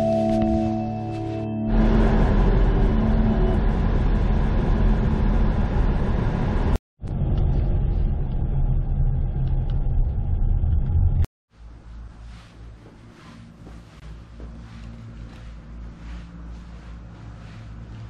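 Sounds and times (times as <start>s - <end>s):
car engine and tyre noise: 1.7s - 18.0s.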